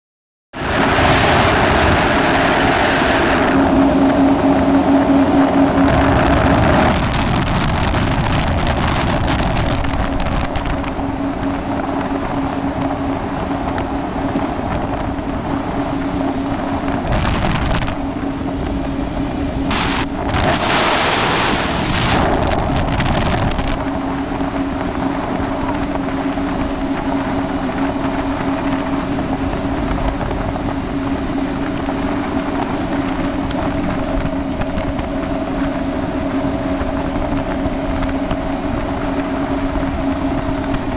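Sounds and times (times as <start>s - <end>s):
jet ski engine running: 0.5s - 40.9s
rush of noise: 0.6s - 40.9s
wind on microphone: 0.6s - 40.9s.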